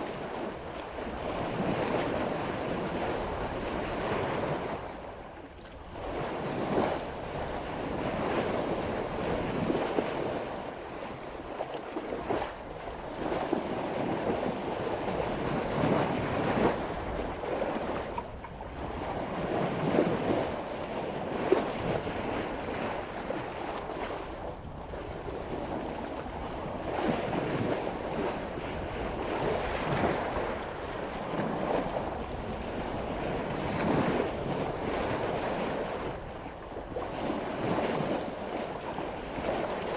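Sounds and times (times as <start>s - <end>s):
water rushing along boat bow: 0.0s - 39.9s
wind on microphone: 0.0s - 39.9s.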